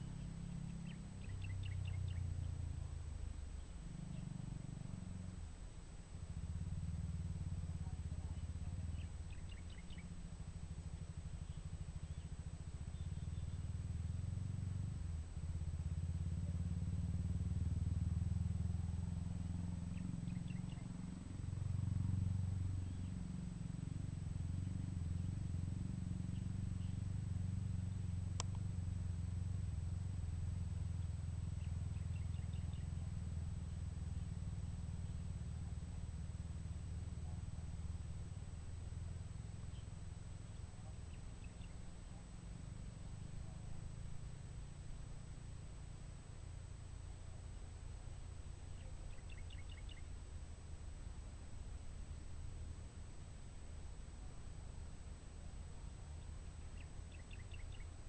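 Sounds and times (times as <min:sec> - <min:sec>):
faint bird chirps: 0:00.0 - 0:58.0.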